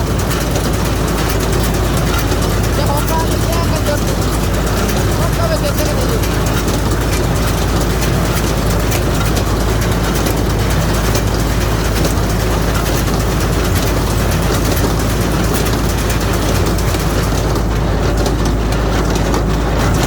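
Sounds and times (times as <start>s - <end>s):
baler mechanism rattling: 0.0s - 20.0s
engine running: 0.0s - 20.0s.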